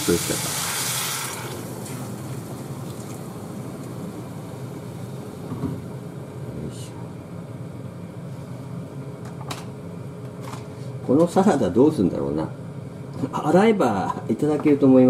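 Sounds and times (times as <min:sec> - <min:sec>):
induction cooktop humming: 0:00.0 - 0:15.0.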